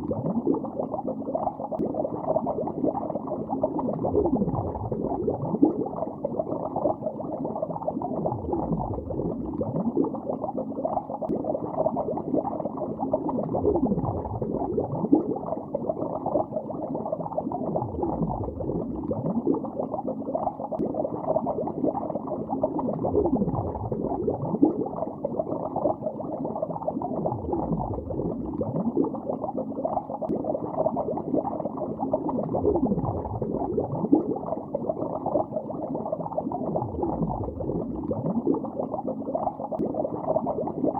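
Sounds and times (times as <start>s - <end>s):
underwater bubbling: 0.0s - 40.9s.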